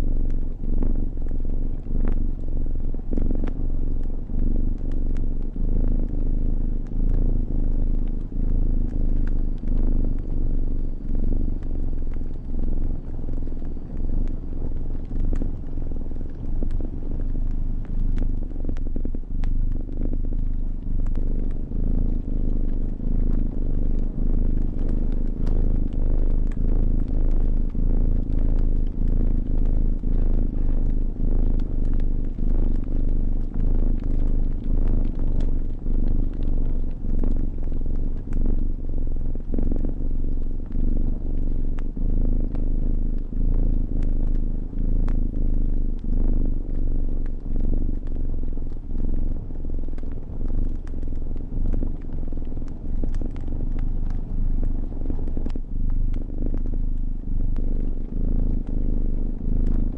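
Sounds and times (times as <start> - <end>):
fire crackling: 0.0 - 58.7
cat purring: 0.0 - 59.9.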